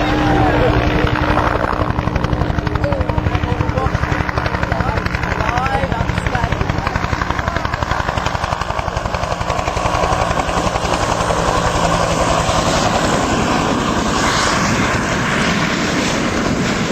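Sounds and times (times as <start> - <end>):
helicopter rotor beating: 0.0 - 16.9.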